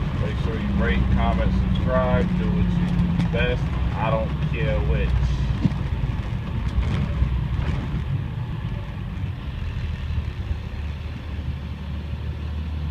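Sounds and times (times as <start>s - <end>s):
bus diesel engine droning: 0.0s - 12.9s.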